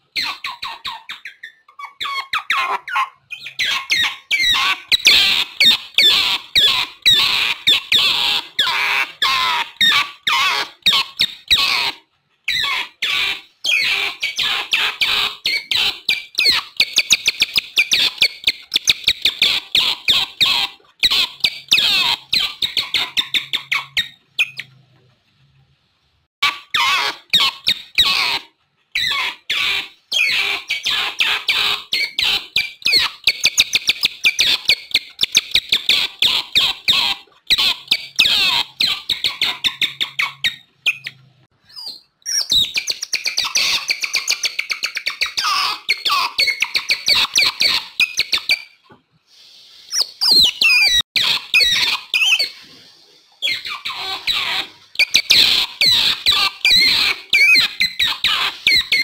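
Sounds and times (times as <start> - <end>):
otters chirping and squeaking: 0.0 - 25.0, 26.4 - 49.0, 49.9 - 59.0.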